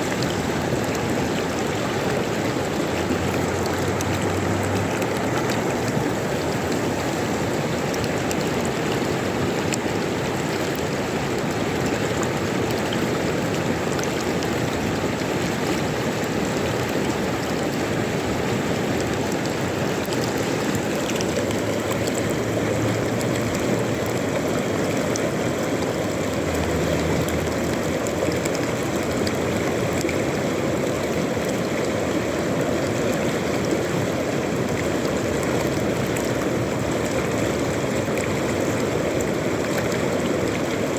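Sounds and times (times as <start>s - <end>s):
river water flowing over stones: 0.0s - 40.9s.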